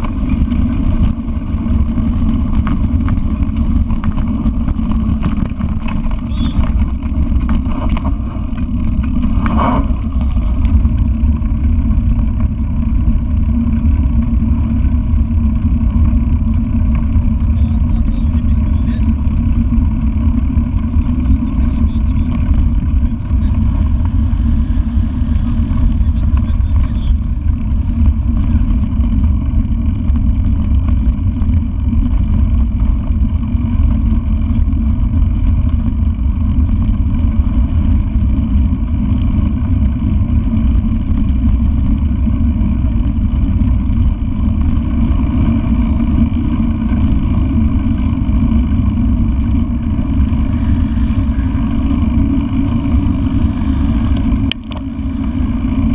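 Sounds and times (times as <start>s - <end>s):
bicycle rolling on paved road: 0.0s - 55.9s
wind rumble on microphone: 0.0s - 55.9s.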